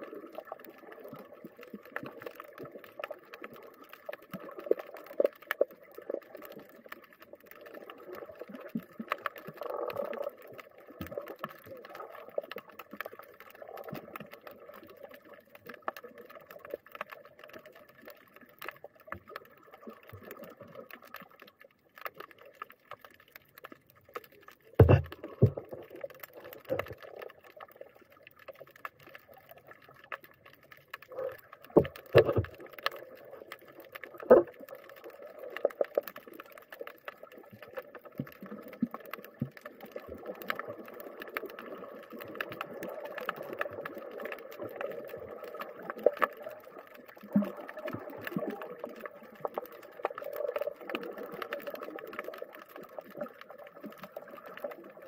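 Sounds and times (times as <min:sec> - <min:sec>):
crackle of faint underwater clicks: 0:00.0 - 0:55.0.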